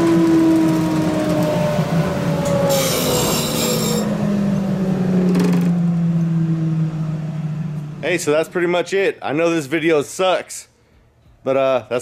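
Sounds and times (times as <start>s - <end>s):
dust collector humming: 0.0s - 10.3s.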